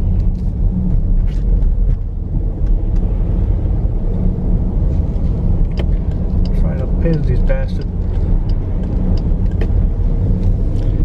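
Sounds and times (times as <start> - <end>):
engine and road noise in car: 0.0 - 11.0.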